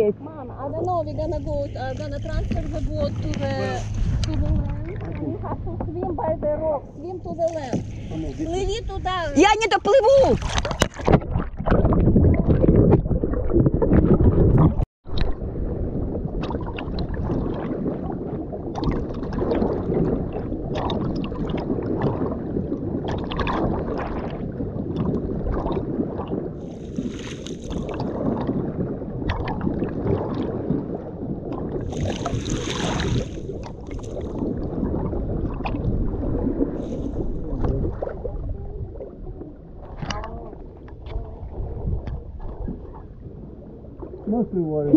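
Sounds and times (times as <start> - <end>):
water washing around kayak: 0.0 - 44.9
wind buffeting microphone: 0.0 - 44.9
paddle splashes: 0.8 - 14.4, 15.1 - 44.4.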